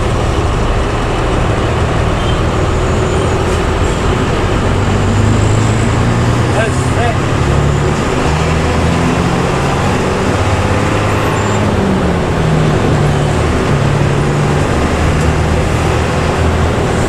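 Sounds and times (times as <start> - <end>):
bus engine growling exhaust: 0.0 - 17.0
road noise: 0.0 - 17.0.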